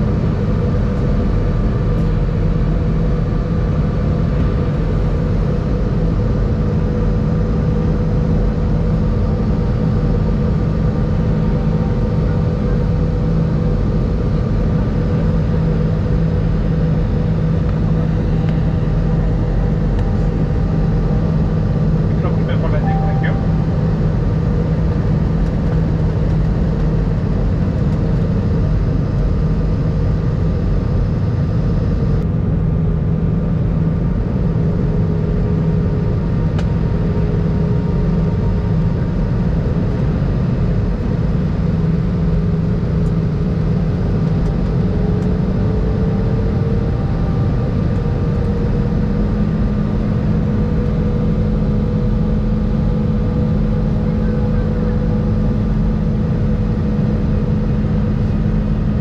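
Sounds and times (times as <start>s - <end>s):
jet engines and airflow rumble: 0.0s - 59.0s
steady engine tones: 0.0s - 59.0s.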